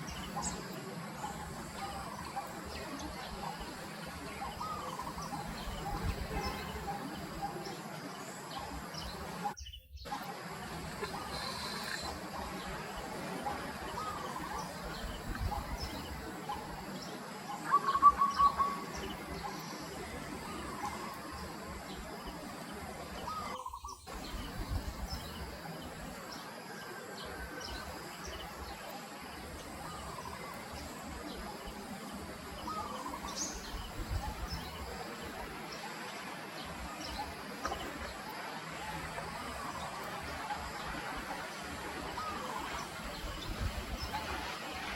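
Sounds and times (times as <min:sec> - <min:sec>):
outdoor background noise: 0:00.0 - 0:44.9.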